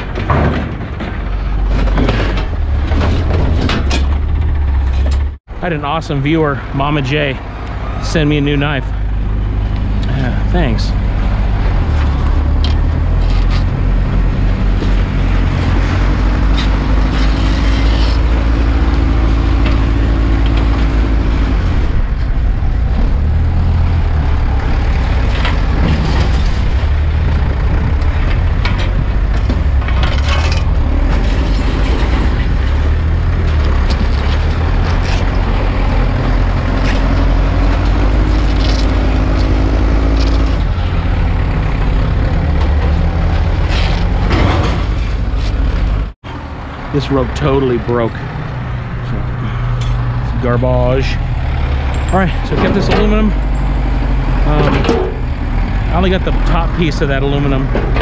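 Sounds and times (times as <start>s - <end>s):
heavy vehicle engine rumbling: 0.0s - 58.0s.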